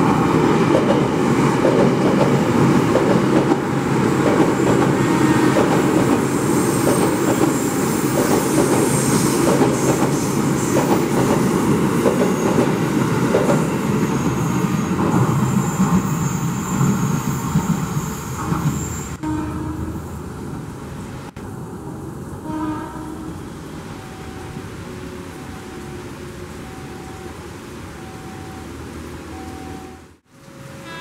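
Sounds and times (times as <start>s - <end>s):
train wheels rumbling on rails: 0.0s - 25.7s.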